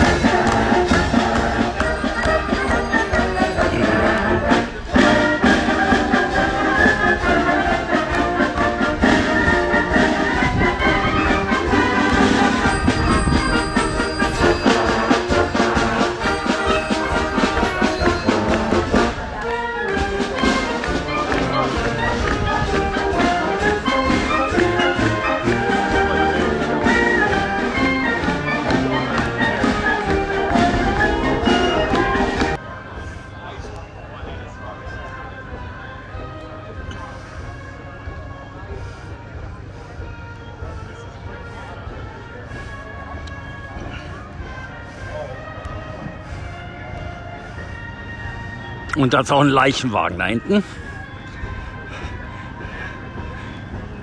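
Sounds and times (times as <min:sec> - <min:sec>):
concert band with brass playing: 0:00.0 - 0:54.0.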